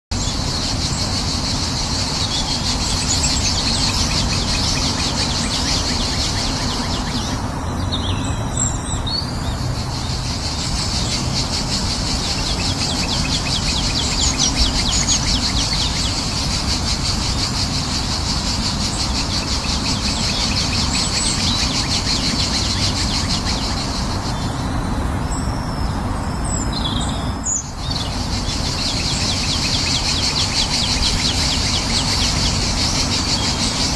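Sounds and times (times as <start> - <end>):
birds chirping: 0.1 - 33.9
high pulsing hiss: 0.2 - 7.6, 9.6 - 25.3, 27.7 - 33.9.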